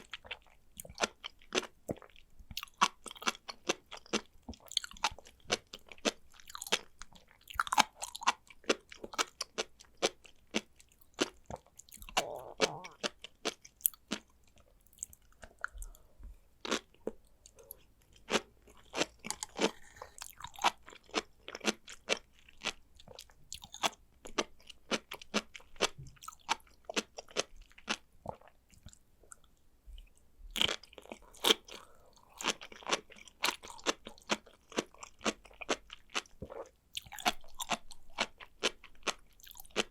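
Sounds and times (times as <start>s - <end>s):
person chewing with sharp clicks: 0.0s - 16.0s, 16.6s - 29.5s, 30.6s - 39.9s.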